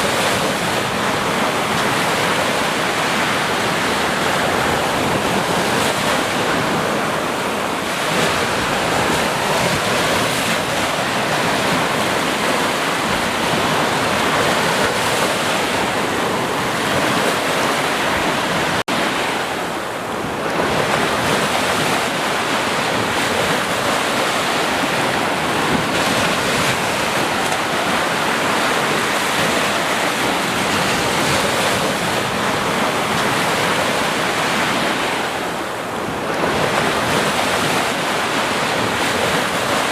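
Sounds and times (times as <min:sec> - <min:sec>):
sea surf breaking: 0:00.0 - 0:39.9
wind: 0:00.0 - 0:39.9.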